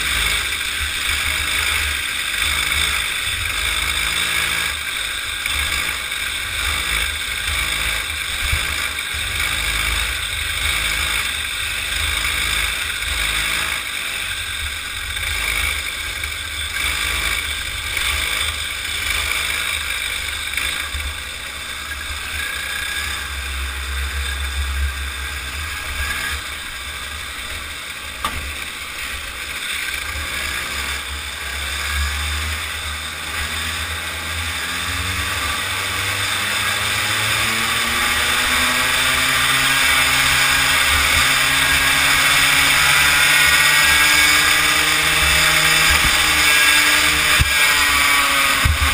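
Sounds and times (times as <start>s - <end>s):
small kart engine running: 0.0s - 48.9s.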